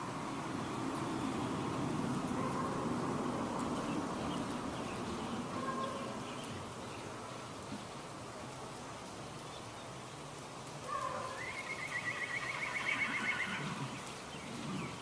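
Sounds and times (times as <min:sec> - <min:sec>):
natural background: 0:00.0 - 0:15.0.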